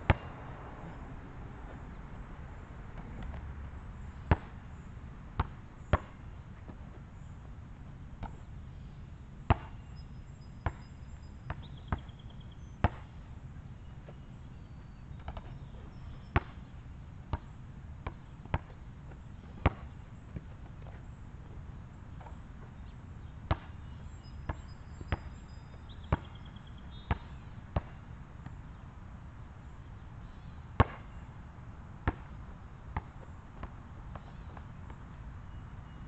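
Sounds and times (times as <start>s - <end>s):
basketball bouncing on asphalt: 0.0s - 2.0s, 2.8s - 7.3s, 9.4s - 13.3s, 14.0s - 28.8s, 30.4s - 31.2s, 32.0s - 35.1s
low outdoor rumble: 0.0s - 36.0s.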